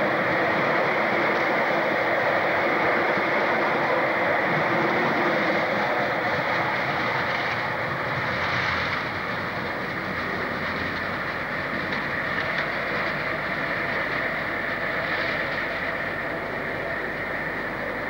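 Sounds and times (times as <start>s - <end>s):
freight train rumble: 0.0s - 18.0s
train wheel clatter: 0.0s - 18.0s.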